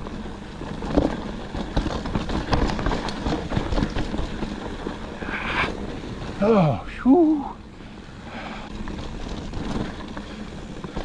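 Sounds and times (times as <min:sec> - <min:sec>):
bike knocks and rattles: 0:00.0 - 0:06.4, 0:08.4 - 0:11.0
tyres rumbling on dirt and rock: 0:00.0 - 0:11.0.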